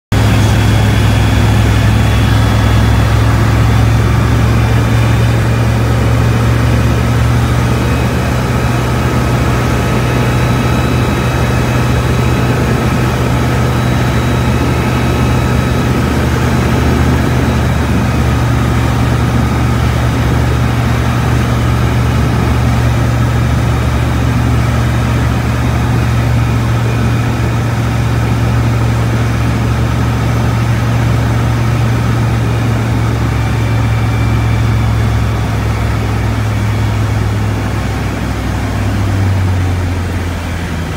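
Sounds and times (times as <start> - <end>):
light aircraft engine droning: 0.1 - 40.9.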